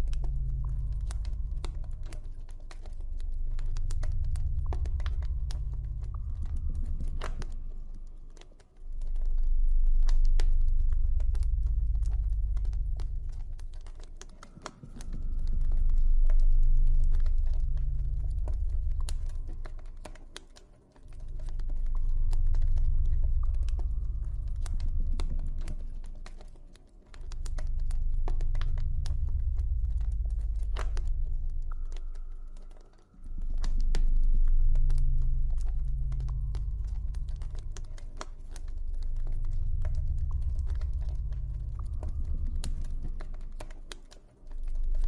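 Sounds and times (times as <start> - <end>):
low ambient drone: 0.0 - 45.0.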